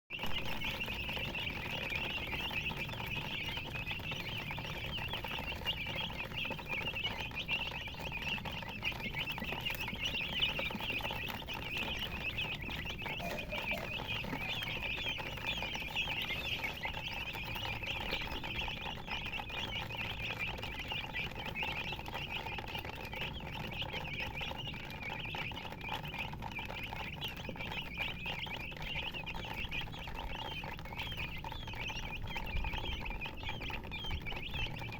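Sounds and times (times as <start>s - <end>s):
baby chicks chirping: 0.1s - 34.9s.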